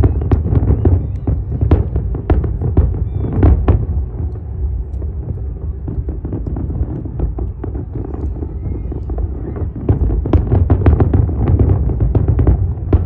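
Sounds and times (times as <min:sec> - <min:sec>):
fireworks bursting: 0:00.0 - 0:13.0
steady low rumble: 0:00.0 - 0:13.0.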